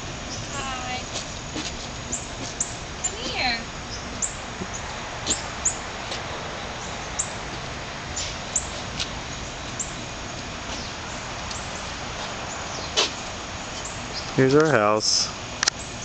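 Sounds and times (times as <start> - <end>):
steady outdoor hiss: 0.0 - 16.0
small birds chirping: 0.2 - 16.0.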